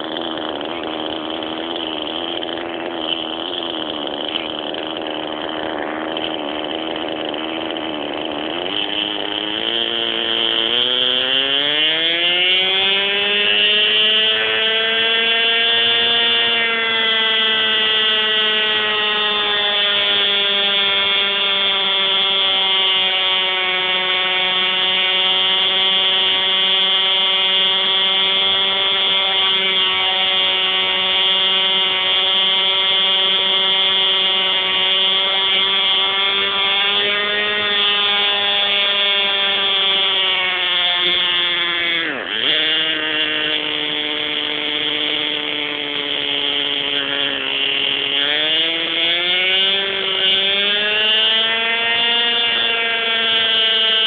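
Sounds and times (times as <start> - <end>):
model helicopter engine and rotor: 0.0 - 54.0.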